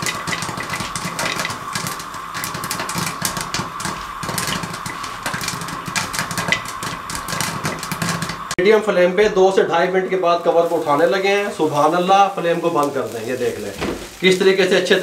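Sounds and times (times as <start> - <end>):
popcorn popping in pan: 0.0 - 8.7, 9.3 - 15.0
steady hum: 0.0 - 15.0.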